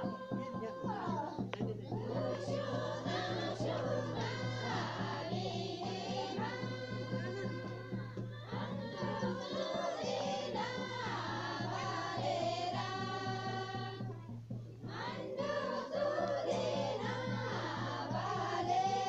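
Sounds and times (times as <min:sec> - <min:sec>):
group singing in unison: 0:00.0 - 0:19.0.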